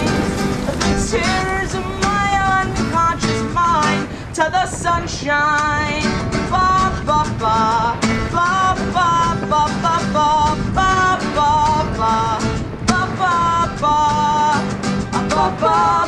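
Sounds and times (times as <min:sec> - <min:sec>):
upbeat pop song: 0:00.0 - 0:16.0.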